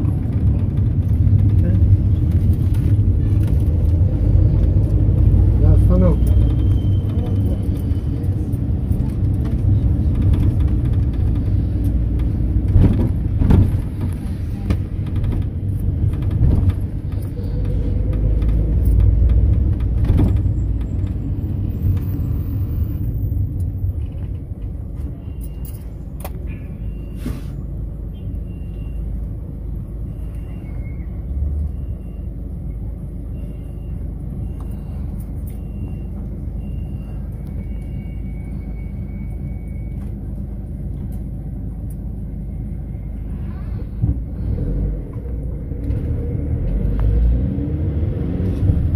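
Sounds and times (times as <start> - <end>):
engine and road rumble: 0.0 - 48.9.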